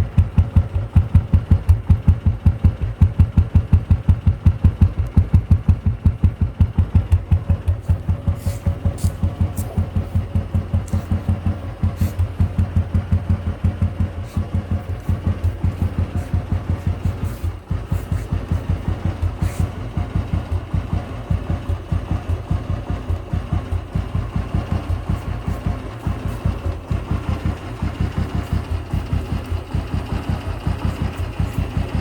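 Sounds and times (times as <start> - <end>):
single-cylinder engine idling: 0.0 - 32.0.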